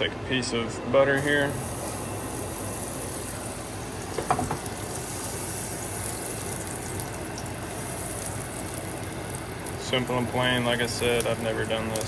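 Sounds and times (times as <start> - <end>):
butter sizzling in a pan: 1.2 - 12.0.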